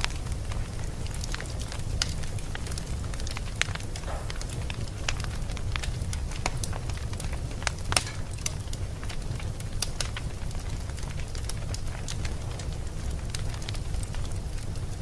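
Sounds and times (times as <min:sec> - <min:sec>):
fire crackling and popping: 0:00.0 - 0:15.0
flames rumbling: 0:00.0 - 0:15.0.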